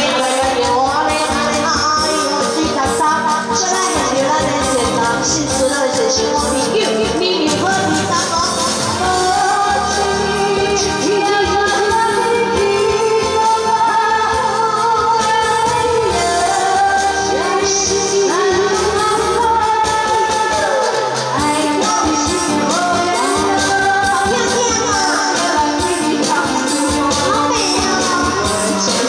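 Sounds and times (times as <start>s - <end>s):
amplified backing music: 0.0s - 29.0s
women singing pop song: 0.0s - 29.0s.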